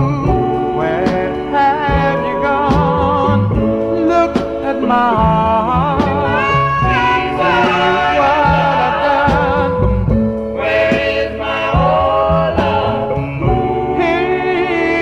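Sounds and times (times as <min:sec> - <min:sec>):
instrumental backing: 0:00.0 - 0:15.0
vocal group singing ballad: 0:00.0 - 0:15.0.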